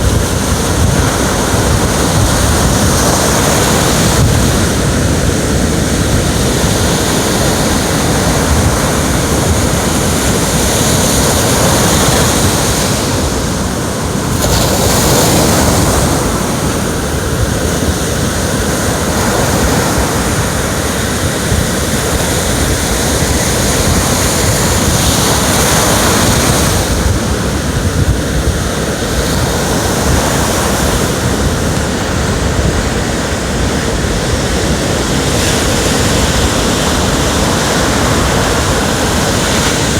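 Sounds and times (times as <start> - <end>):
ocean waves breaking on shore: 0.0 - 39.9
wind buffeting microphone: 0.0 - 39.9.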